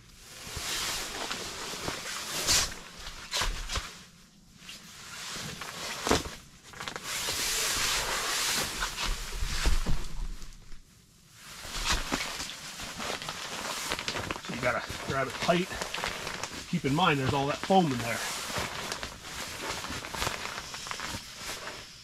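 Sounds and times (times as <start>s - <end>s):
fabric rustling: 0.0s - 22.0s.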